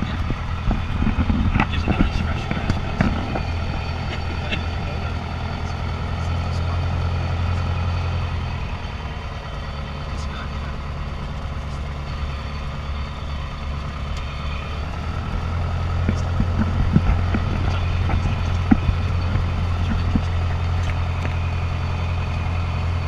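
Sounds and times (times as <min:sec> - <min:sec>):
propeller plane engine running: 0:00.0 - 0:23.0.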